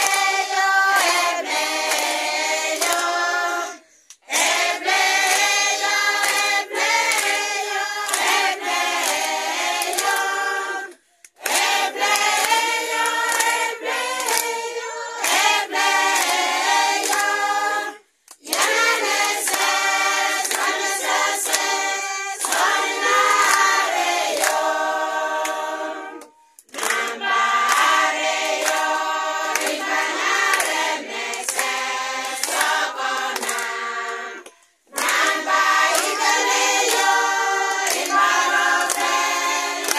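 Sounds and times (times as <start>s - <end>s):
congregation singing unaccompanied: 0.0s - 39.9s
hands clapping on the beat: 0.0s - 39.9s.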